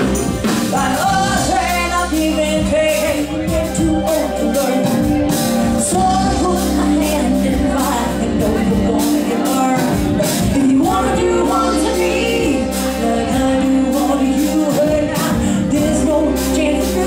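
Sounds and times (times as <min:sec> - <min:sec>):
live band music: 0:00.0 - 0:17.0
woman singing: 0:00.0 - 0:17.0.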